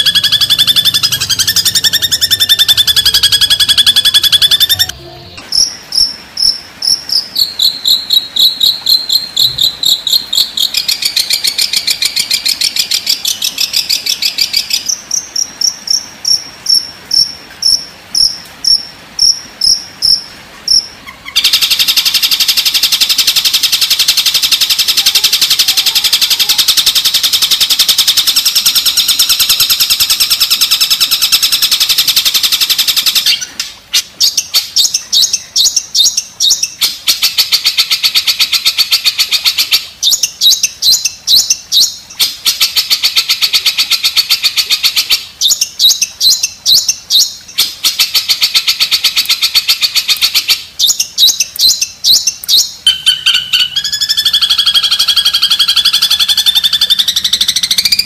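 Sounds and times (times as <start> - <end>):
recorded songbird trilling: 0.0 - 58.0.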